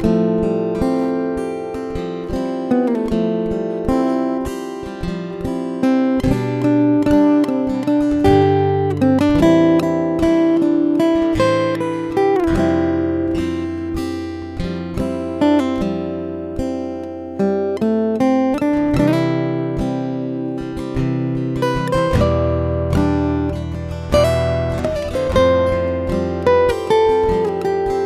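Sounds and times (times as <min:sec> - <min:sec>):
acoustic guitar picked and strummed: 0:00.0 - 0:28.0.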